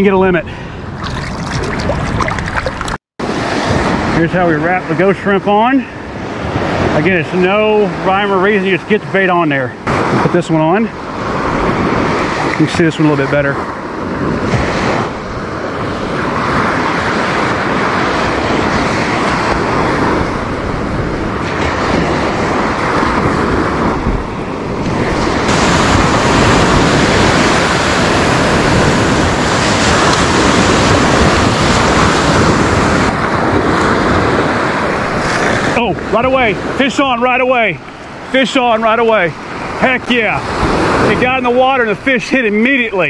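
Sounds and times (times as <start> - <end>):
wind buffeting microphone: 0.0 - 9.0, 13.4 - 42.0
ocean surf breaking: 0.0 - 43.0.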